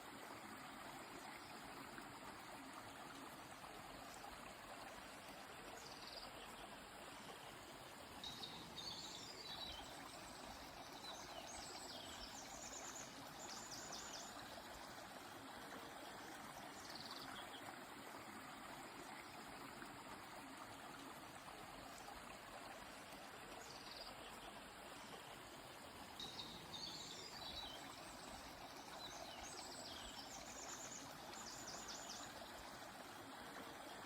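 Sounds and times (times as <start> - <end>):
river flowing: 0.0 - 34.0.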